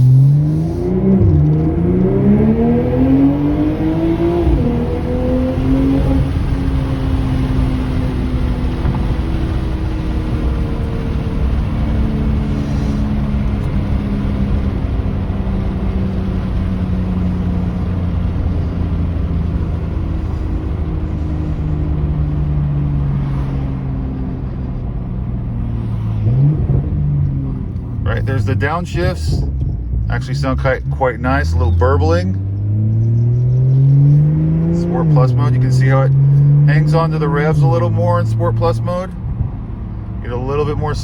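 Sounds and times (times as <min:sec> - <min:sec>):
car exhaust from inside cabin: 0:00.0 - 0:41.0.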